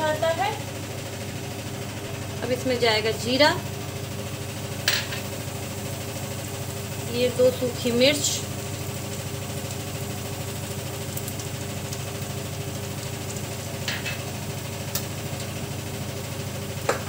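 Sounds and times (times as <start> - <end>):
low machine hum: 0.0 - 17.0
spices frying in hot oil: 0.0 - 17.0.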